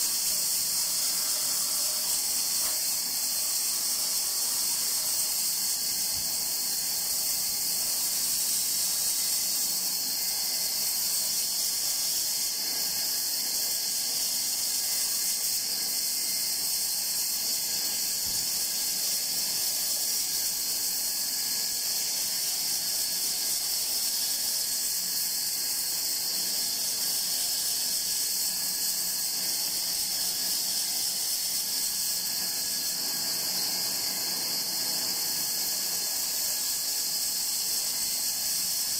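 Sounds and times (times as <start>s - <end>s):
band saw cutting wood: 0.0s - 38.9s.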